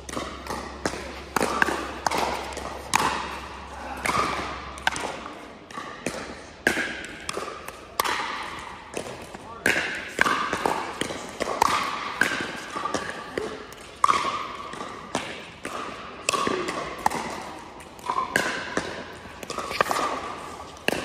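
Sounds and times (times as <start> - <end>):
ball bouncing on hard court: 0.0 - 21.0
paddles hitting plastic ball: 0.0 - 21.0.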